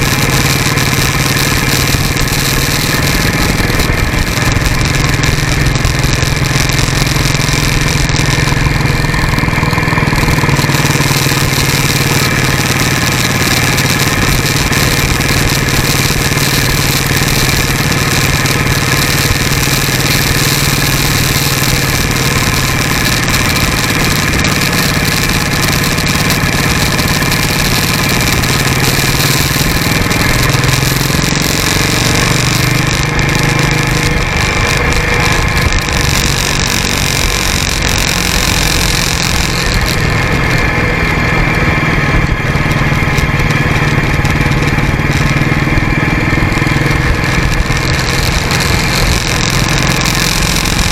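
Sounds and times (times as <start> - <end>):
motorcycle engine running: 0.0 - 50.9
road noise: 0.0 - 50.9.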